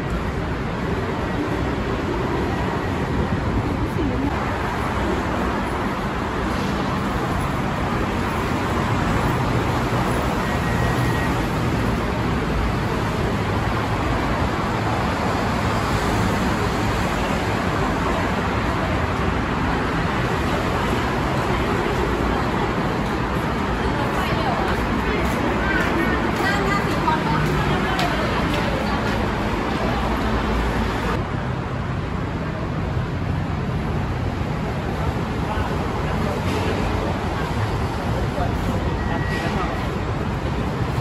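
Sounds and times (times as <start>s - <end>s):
busy road traffic hum: 0.0s - 41.0s.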